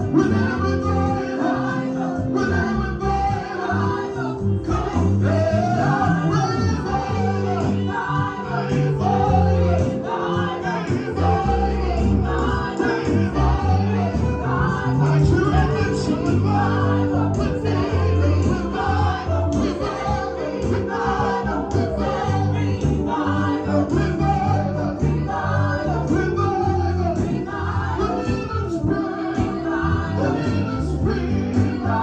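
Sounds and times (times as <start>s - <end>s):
bass line: 0.0s - 32.0s
voices singing together: 0.0s - 32.0s.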